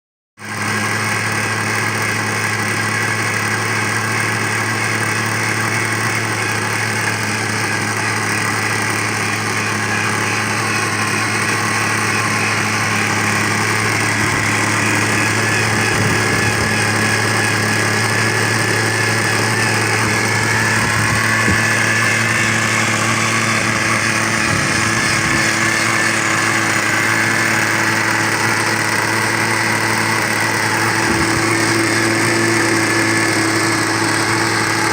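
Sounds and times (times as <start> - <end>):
model helicopter engine running: 0.4 - 34.9.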